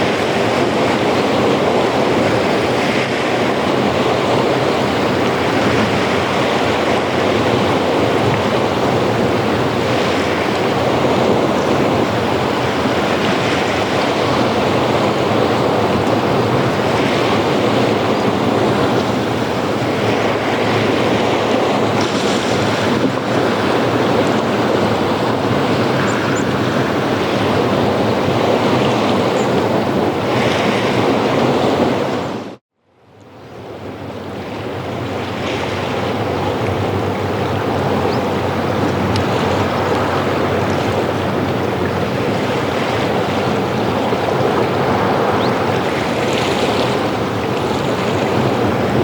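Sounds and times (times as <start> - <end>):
ocean surf washing onto beach: 0.0 - 32.6, 33.2 - 49.0.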